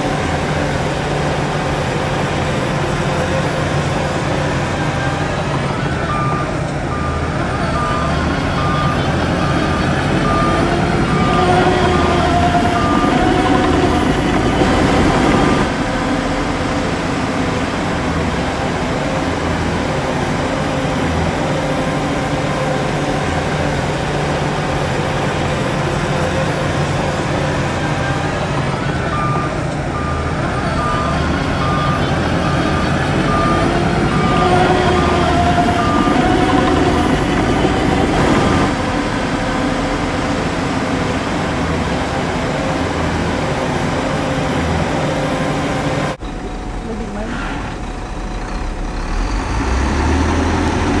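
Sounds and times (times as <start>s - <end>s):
heavy diesel machinery running: 0.0s - 51.0s
reversing alarm beeping: 0.0s - 51.0s.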